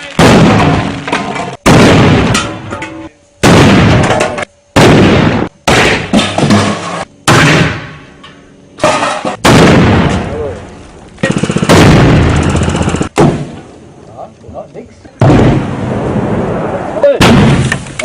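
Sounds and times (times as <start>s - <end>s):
loud blasts: 0.0s - 8.2s, 8.8s - 10.6s, 11.2s - 13.9s, 15.2s - 18.0s.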